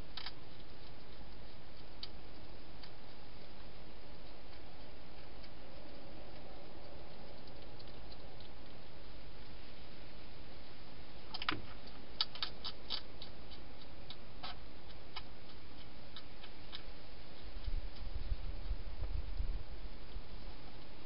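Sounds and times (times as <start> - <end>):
hedgehog crunching food: 0.0 - 21.0
low rumble: 0.0 - 21.0.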